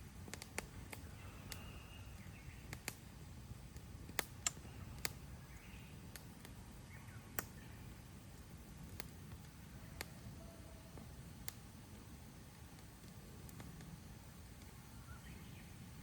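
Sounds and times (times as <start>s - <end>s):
campfire crackles and pops: 0.0s - 16.0s
low rumble of flames: 0.0s - 16.0s.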